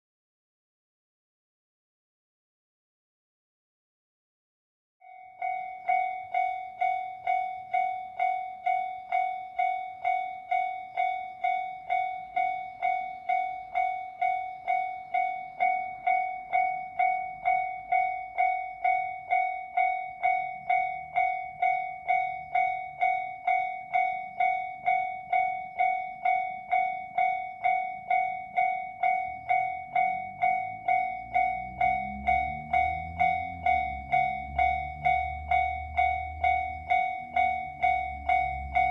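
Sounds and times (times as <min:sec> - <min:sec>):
level crossing warning bell: 0:05.0 - 0:38.9
low train rumble: 0:05.3 - 0:38.9.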